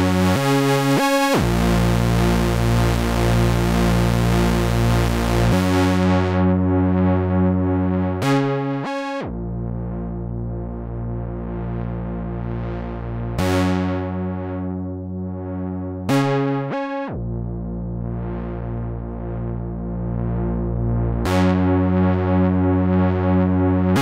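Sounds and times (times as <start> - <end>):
buzzy synth bass notes: 0.0 - 24.0.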